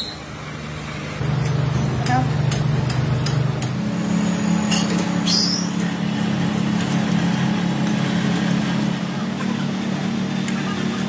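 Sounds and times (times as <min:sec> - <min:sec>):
motor droning: 0:01.1 - 0:11.0.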